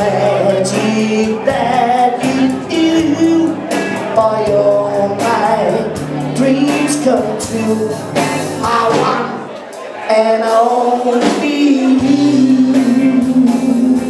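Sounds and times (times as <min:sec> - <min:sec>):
low bass notes: 0:00.0 - 0:09.6, 0:10.4 - 0:14.0
live band playing: 0:00.0 - 0:14.0
person singing: 0:00.0 - 0:14.0.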